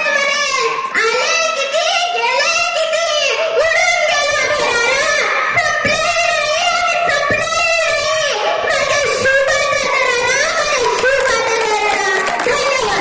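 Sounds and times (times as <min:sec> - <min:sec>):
girl speaking in sing-song voice: 0:00.0 - 0:13.0.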